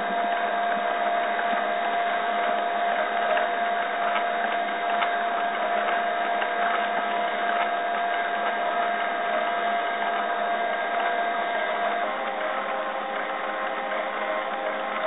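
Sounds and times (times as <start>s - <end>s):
cnc mill spindle whine: 0.0s - 15.0s
faint ticks: 2.4s - 15.0s.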